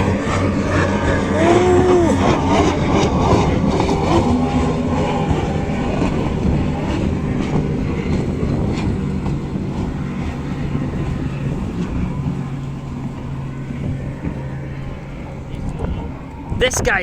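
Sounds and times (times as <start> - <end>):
powerboat engine drone: 0.0 - 17.0.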